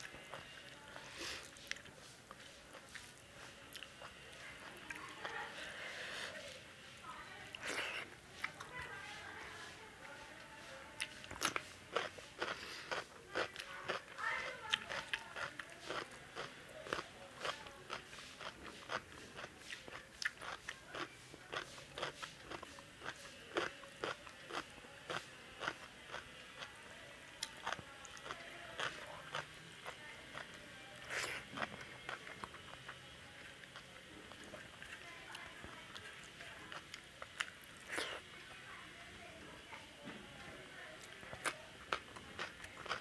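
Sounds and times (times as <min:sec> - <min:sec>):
person chewing food: 0:00.0 - 0:06.5, 0:11.0 - 0:26.7, 0:27.3 - 0:38.3, 0:41.0 - 0:43.0.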